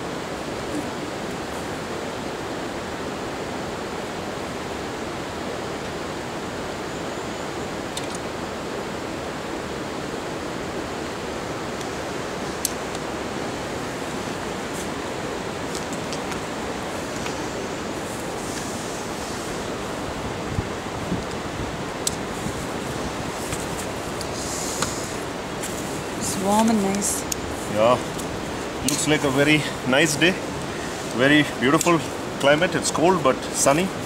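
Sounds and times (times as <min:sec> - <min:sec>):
steady rushing noise: 0:00.0 - 0:34.0.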